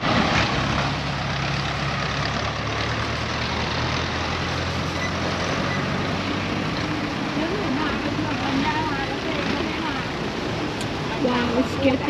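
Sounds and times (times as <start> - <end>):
large engine humming: 0.0 - 12.0
outdoor rushing noise: 0.0 - 12.0.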